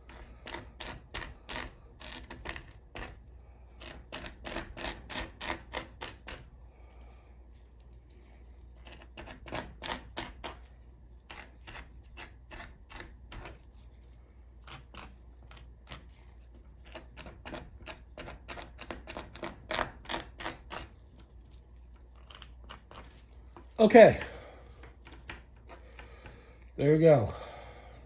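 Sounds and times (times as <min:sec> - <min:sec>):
plastic scraper scraping chicken skin: 0:00.0 - 0:06.5, 0:08.7 - 0:13.9, 0:14.6 - 0:26.5.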